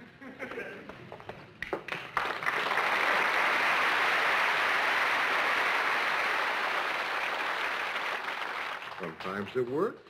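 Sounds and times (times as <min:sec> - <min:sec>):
audience applauding: 0:01.6 - 0:09.9.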